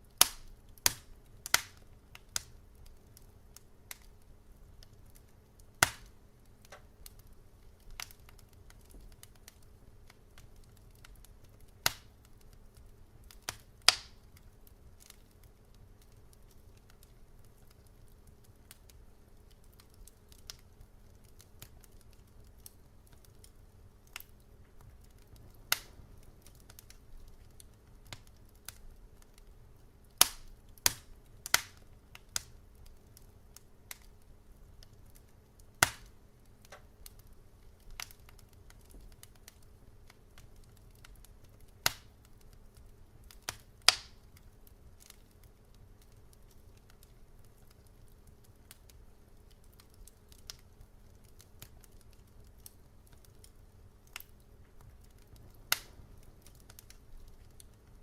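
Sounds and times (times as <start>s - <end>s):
faint low hum: 0.0s - 58.0s
fire crackling: 0.0s - 58.0s.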